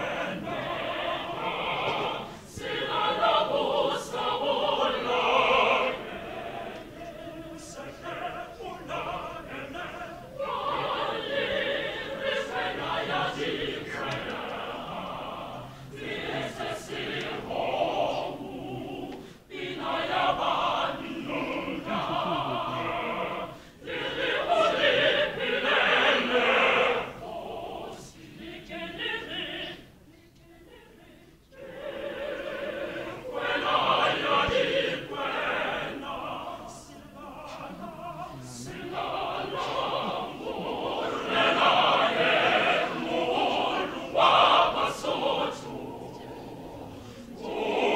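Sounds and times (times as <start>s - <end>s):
mixed choir singing: 0.0s - 47.9s.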